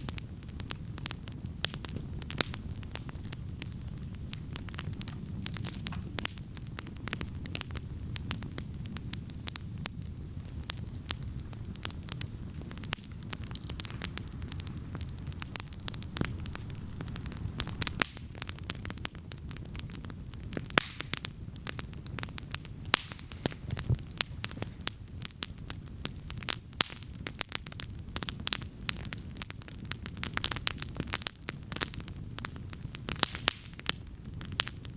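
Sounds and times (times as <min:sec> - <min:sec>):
campfire crackling and popping: 0:00.0 - 0:34.9
low rumble of flames: 0:00.0 - 0:34.9.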